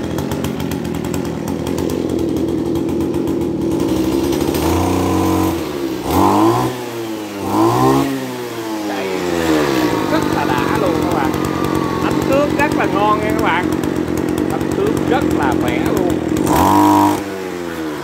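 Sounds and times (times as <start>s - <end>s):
brush cutter engine idling and revving: 0.0s - 18.0s.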